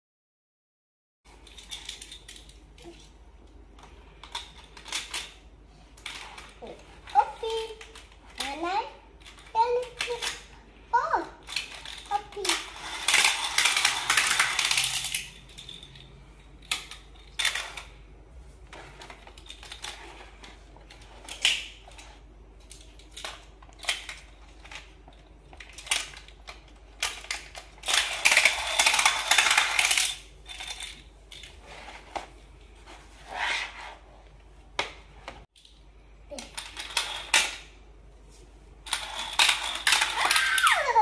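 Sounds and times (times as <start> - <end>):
toy cars clattering down plastic track: 1.4 - 3.0, 3.8 - 18.0, 18.7 - 32.3, 36.3 - 37.7, 38.8 - 41.0.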